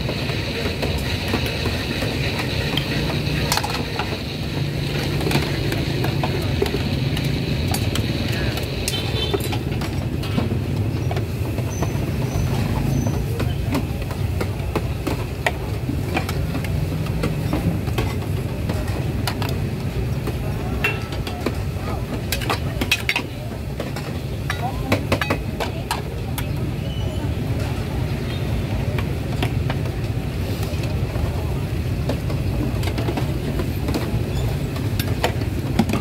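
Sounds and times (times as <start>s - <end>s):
crowd hubbub: 0.0s - 36.0s
traffic rumble: 0.0s - 36.0s.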